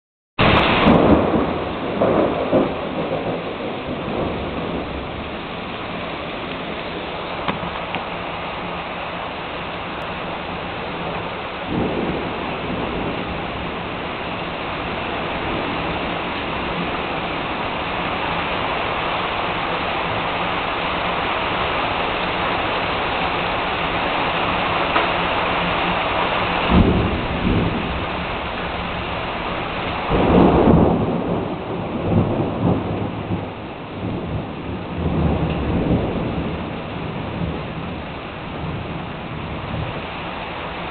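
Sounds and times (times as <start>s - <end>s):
heavy rain pouring: 0.4s - 40.9s
thunder rumbling and cracking: 0.4s - 40.9s.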